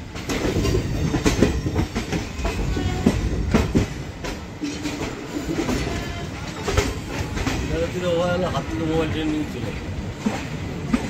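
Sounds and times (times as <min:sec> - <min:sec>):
train rumbling: 0:00.0 - 0:11.0
train wheels clacking on rail joints: 0:00.0 - 0:11.0.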